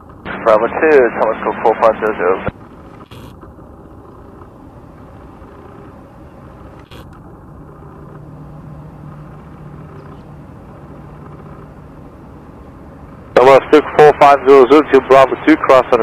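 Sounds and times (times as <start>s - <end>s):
low hum: 0.0s - 15.9s
jet engines rumbling at low power: 0.0s - 16.0s.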